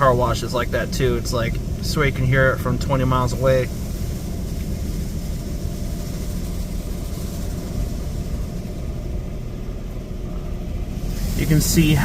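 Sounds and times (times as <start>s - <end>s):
low rumble of machine and pump: 0.0s - 12.0s
water jets hissing on car: 0.0s - 12.0s.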